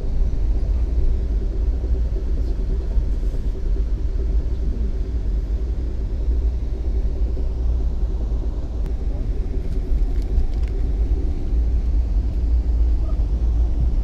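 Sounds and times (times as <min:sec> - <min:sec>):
faint steady hum: 0:00.0 - 0:14.0
train rumble: 0:00.0 - 0:14.0.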